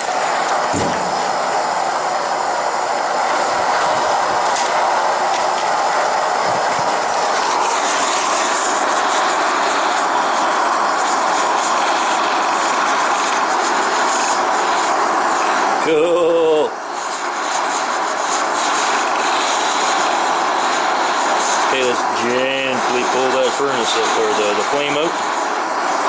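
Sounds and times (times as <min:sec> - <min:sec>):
burner flame rushing: 0:00.0 - 0:26.0.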